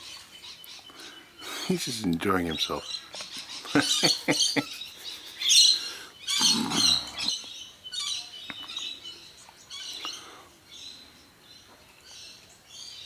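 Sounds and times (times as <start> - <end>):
birds calling and chirping: 0.0 - 13.0.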